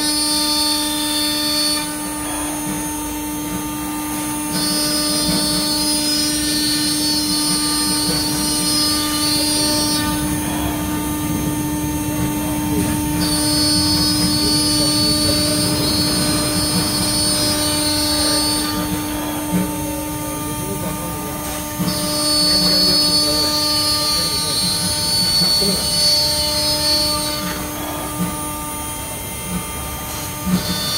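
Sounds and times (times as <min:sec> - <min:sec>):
higher-pitched whine: 0:00.0 - 0:30.9
router spindle whine: 0:00.0 - 0:30.9.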